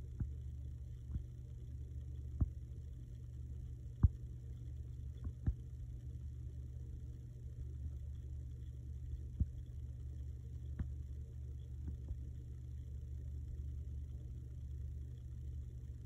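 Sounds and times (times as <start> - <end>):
low steady room hum: 0.0 - 16.0.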